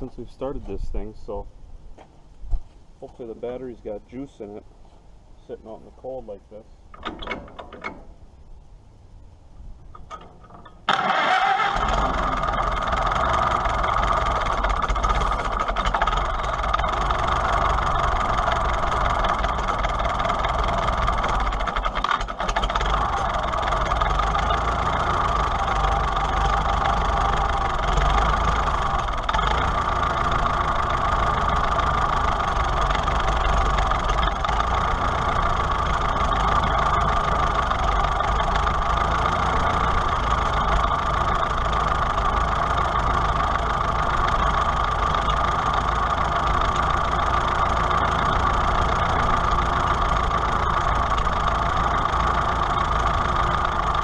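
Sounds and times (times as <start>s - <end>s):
tractor engine starting and idling: 6.9s - 8.3s, 9.8s - 54.0s.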